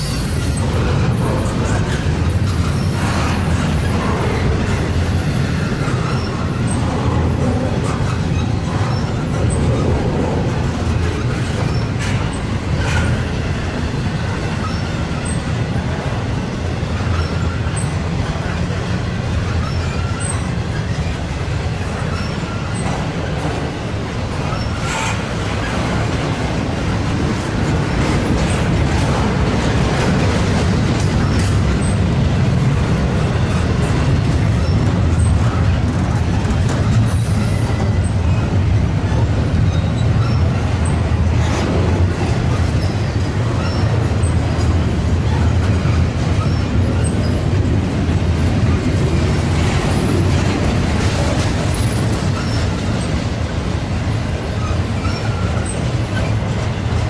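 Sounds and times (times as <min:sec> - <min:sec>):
steel wheels rumbling on rail: 0:00.0 - 0:57.0
train clanks: 0:00.0 - 0:57.0.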